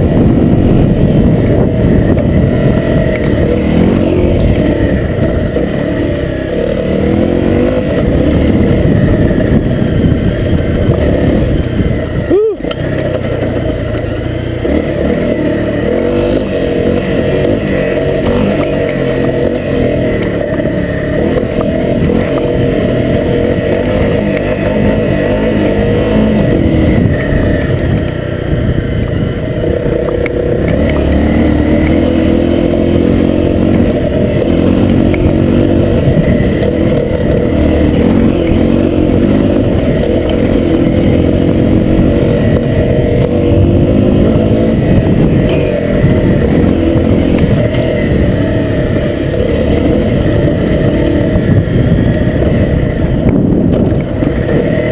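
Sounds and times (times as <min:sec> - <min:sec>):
motorcycle engine under load: 0:00.0 - 0:54.9.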